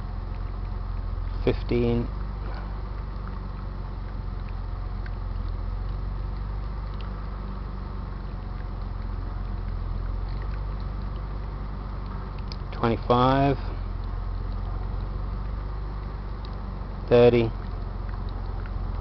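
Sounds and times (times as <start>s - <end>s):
faint ticks: 0.0s - 12.8s, 13.5s - 19.0s
car engine idling: 0.0s - 19.0s.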